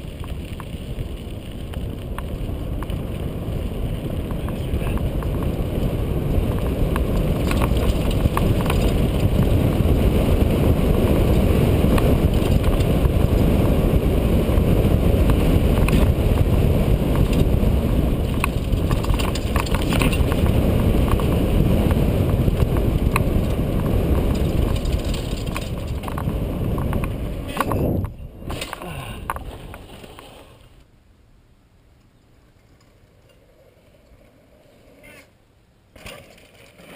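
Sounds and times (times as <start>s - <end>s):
wind rushing over microphone: 0.0s - 30.0s
bike rattling over rough ground: 0.0s - 30.9s, 32.2s - 36.9s.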